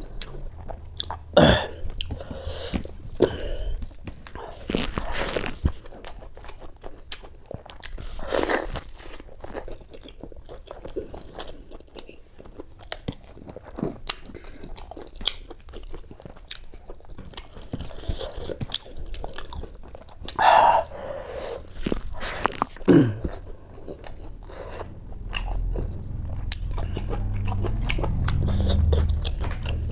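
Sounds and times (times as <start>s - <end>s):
wet chewing mouth clicks: 0.0s - 29.9s.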